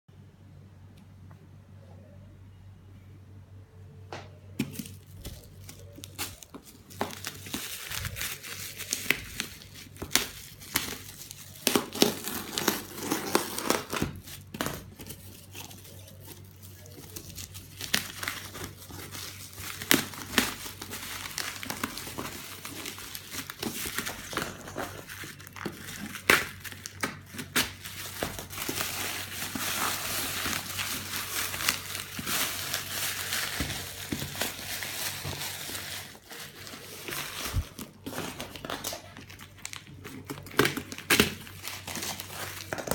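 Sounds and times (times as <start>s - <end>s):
faint low hum: 0.1s - 42.9s
wrapping crinkling and tearing: 4.6s - 42.9s.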